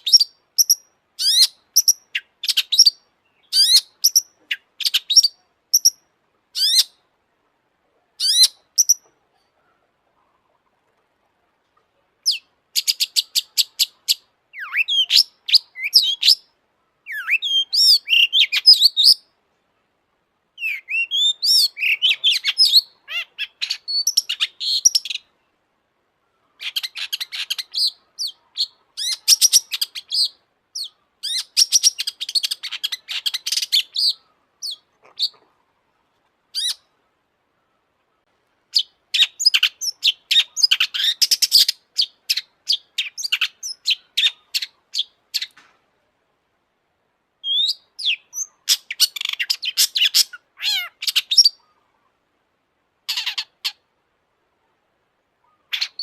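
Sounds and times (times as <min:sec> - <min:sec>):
bird chattering song: 0:00.0 - 0:07.0, 0:08.2 - 0:10.6, 0:12.2 - 0:19.3, 0:20.6 - 0:25.6, 0:26.3 - 0:35.7, 0:36.5 - 0:37.0, 0:37.6 - 0:45.6, 0:47.4 - 0:51.9, 0:53.1 - 0:53.8, 0:55.4 - 0:56.0.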